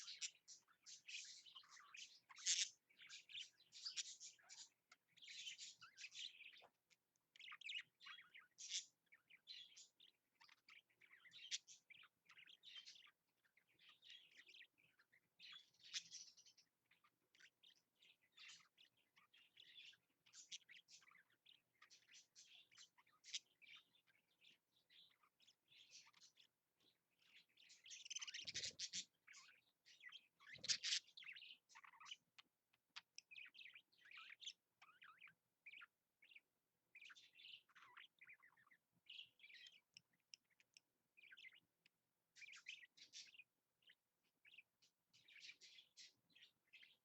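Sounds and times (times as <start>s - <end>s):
budgerigars chattering and warbling: 0.0s - 47.0s.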